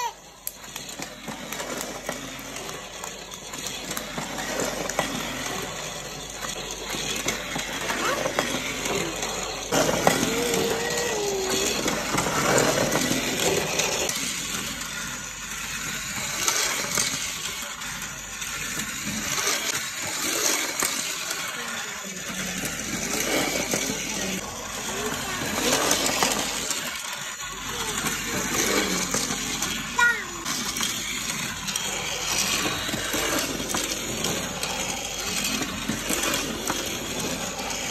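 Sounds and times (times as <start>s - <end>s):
toy train rattling on plastic track: 0.0s - 37.9s.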